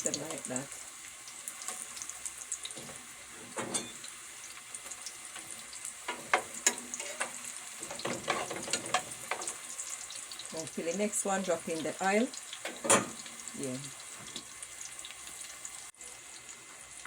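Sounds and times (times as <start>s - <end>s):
plantain frying in hot oil: 0.0s - 17.0s.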